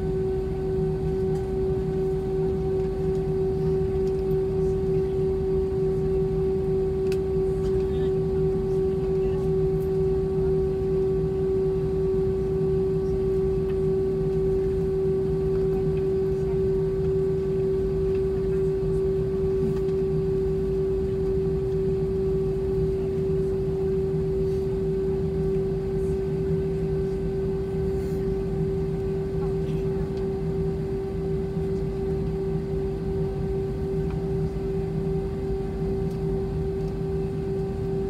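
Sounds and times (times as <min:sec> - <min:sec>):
aircraft cabin hum: 0:00.0 - 0:38.0
constant mid-pitched tone: 0:00.0 - 0:38.0.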